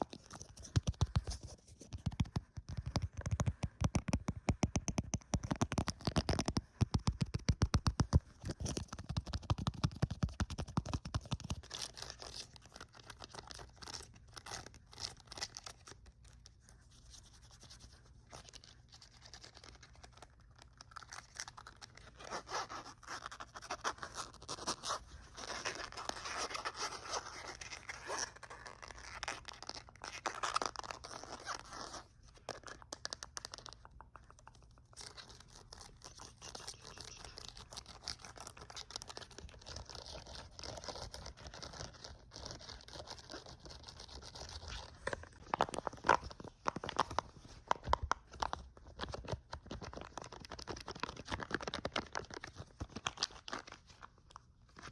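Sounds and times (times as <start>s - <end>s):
rough scratching and crinkling: 5.2s - 54.1s.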